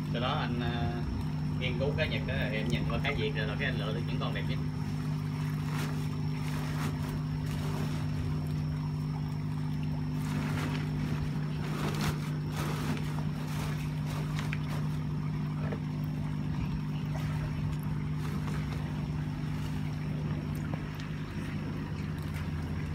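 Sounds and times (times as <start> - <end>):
air pump humming: 0.0 - 22.9
air stone bubbling: 0.0 - 22.9
water splashing and sloshing: 0.0 - 22.9.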